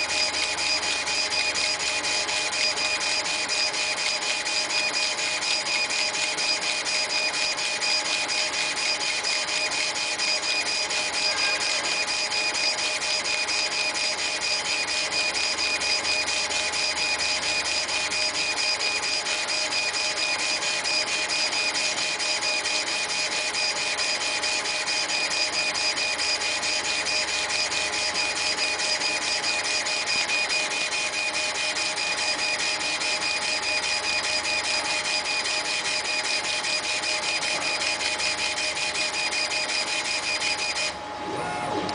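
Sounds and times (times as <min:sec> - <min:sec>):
laser engraving machine whine: 0:00.0 - 0:41.9.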